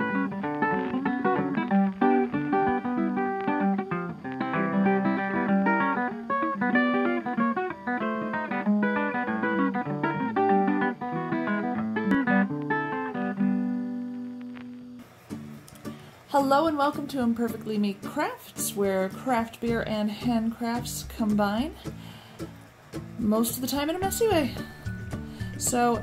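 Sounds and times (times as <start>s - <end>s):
acoustic guitar plucking: 0.0s - 26.0s.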